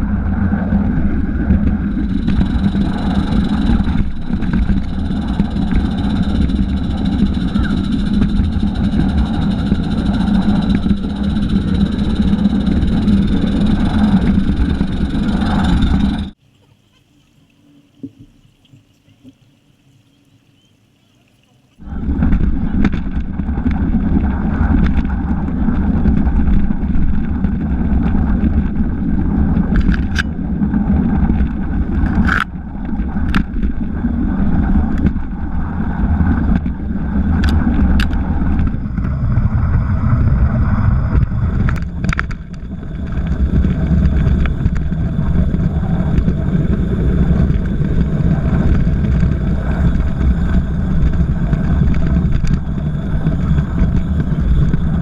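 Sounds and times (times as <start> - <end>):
train rumbling: 0.0 - 16.4, 21.8 - 55.0.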